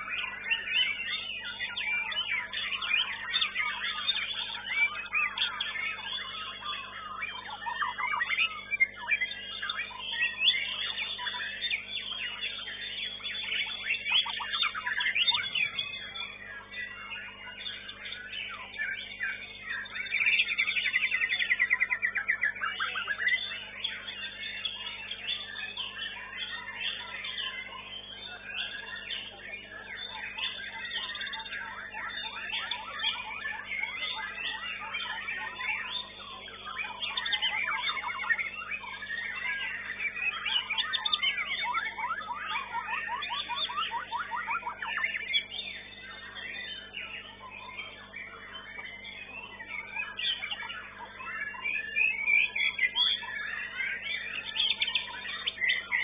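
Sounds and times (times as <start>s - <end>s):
bird singing fast trill: 0.0s - 56.0s
many songbirds chirping: 0.0s - 56.0s.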